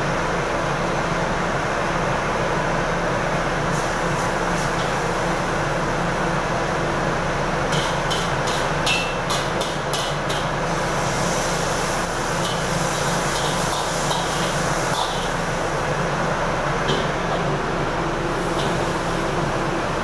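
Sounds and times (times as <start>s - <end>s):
gas burner rushing: 3.7s - 20.0s.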